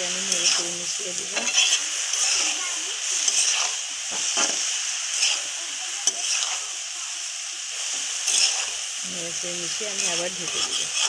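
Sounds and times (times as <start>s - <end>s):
spatula scraping pan: 0.0s - 6.7s, 8.0s - 11.0s
vegetables sizzling in oil: 0.0s - 11.0s.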